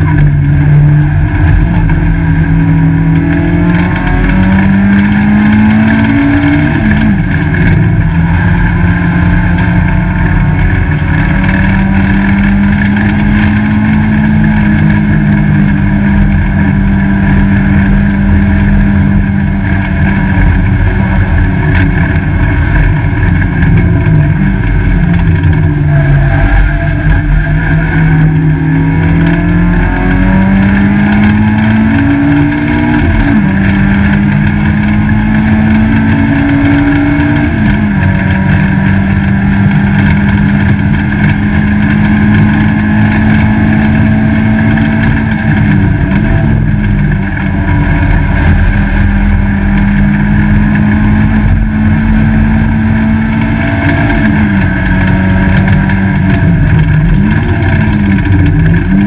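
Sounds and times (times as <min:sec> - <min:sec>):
race car engine accelerating: 0:00.0 - 0:59.0
road and wind noise: 0:00.0 - 0:59.0.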